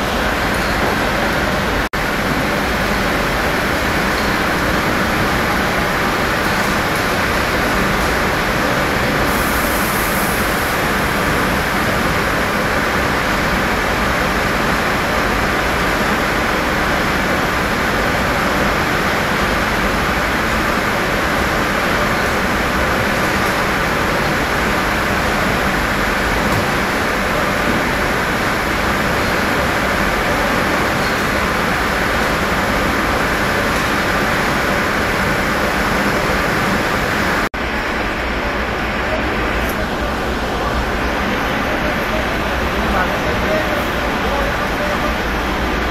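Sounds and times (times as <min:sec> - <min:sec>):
loud steady rushing noise: 0:00.0 - 0:45.9.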